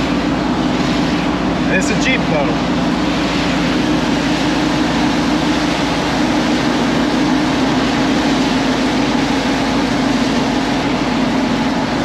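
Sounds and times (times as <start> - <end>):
car engine drone: 0.0 - 12.0
tyres hissing on wet road: 0.0 - 12.0.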